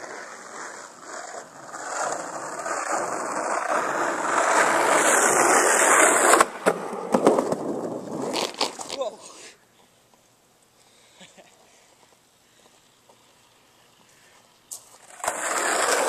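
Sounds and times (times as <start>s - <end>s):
skateboard wheels rolling: 0.0s - 10.3s, 11.6s - 16.0s.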